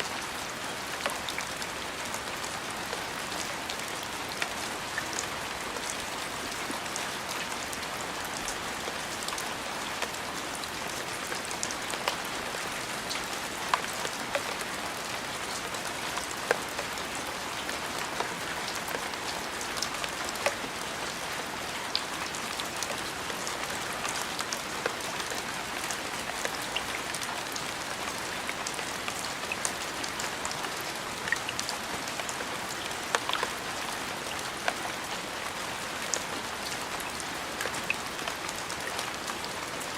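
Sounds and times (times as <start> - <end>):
steady rain hiss: 0.0 - 39.9
raindrops ticking on a surface: 0.1 - 39.9.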